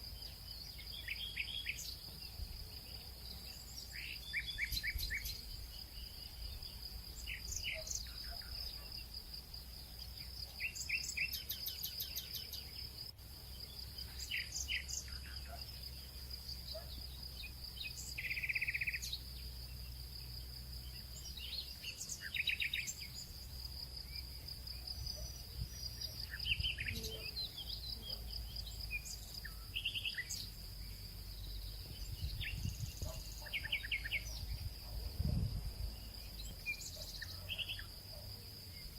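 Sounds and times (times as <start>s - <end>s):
birds chirping: 0.0s - 9.2s, 9.8s - 38.9s.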